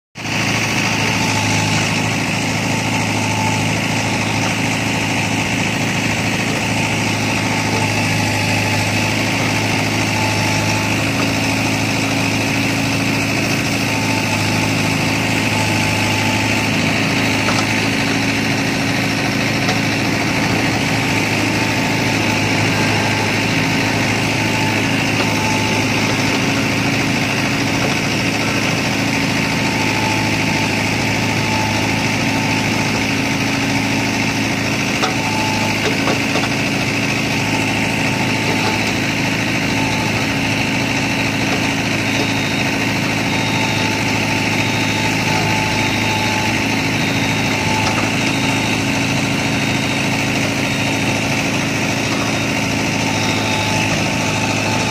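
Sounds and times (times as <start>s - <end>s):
tractor diesel engine running: 0.2s - 54.9s.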